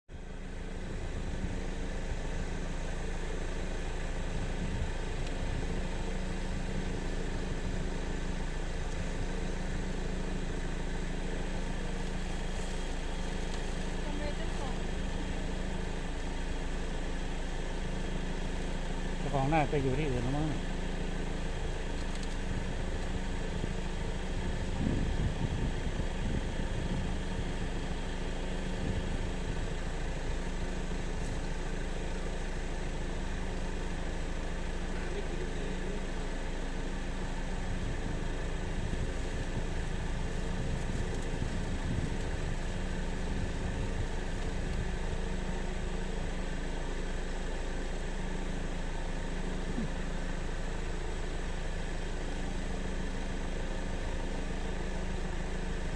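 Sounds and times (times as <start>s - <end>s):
engine idling: 0.1s - 55.9s.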